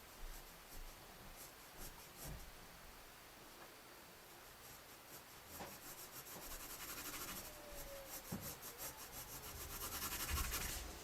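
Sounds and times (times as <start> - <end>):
pencil scratching on paper: 0.0 - 2.5, 4.4 - 11.0.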